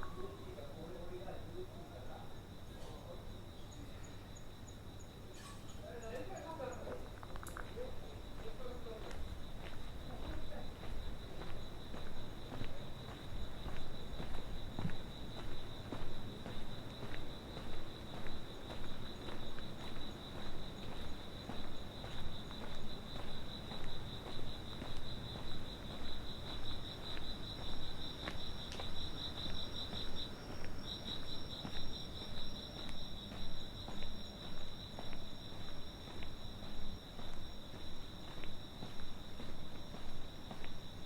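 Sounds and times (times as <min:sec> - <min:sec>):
faint high insect trill: 0:00.0 - 0:41.0
night insects trilling: 0:00.0 - 0:41.0
walking footsteps: 0:06.1 - 0:41.0.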